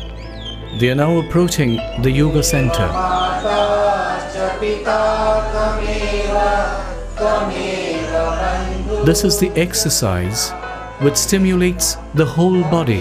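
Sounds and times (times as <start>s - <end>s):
chanted singing: 0.7s - 13.0s.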